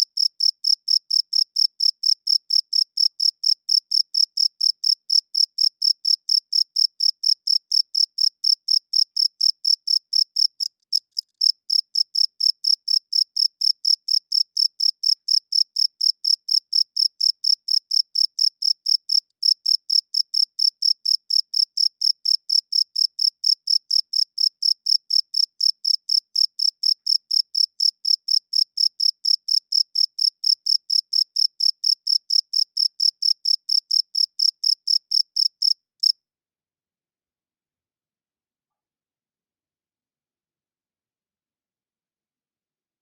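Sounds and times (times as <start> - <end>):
cricket chirping: 0.0 - 36.1.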